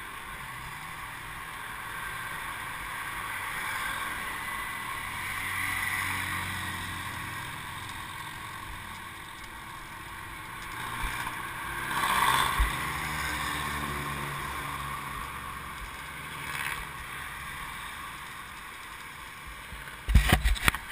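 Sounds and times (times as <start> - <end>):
passing motor traffic hum: 0.0 - 20.9.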